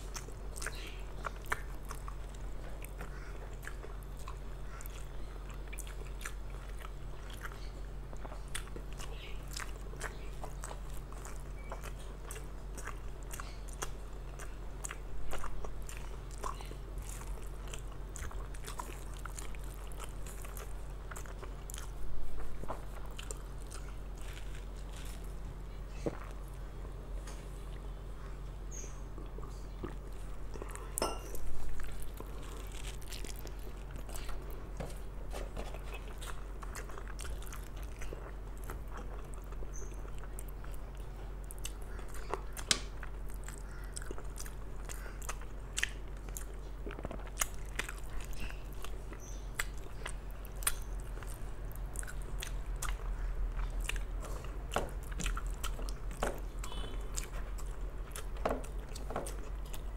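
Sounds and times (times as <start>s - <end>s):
person chewing with mouth smacks: 0.0s - 59.9s.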